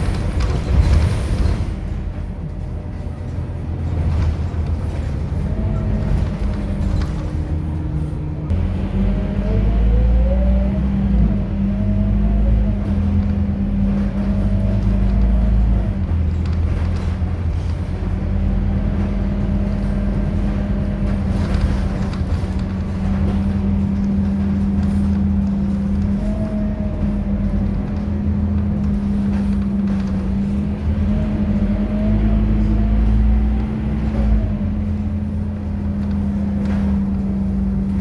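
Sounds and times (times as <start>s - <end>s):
bus engine drone: 0.0s - 38.0s.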